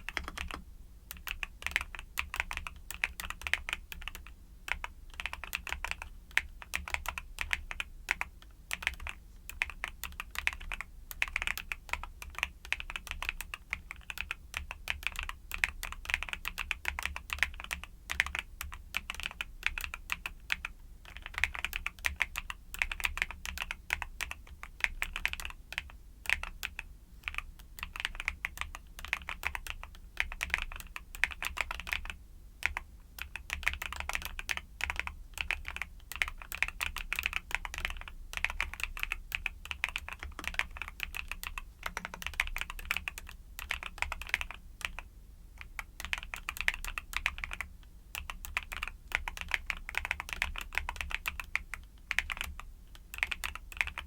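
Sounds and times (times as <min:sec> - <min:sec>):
typing on mechanical keyboard: 0:00.0 - 0:54.0.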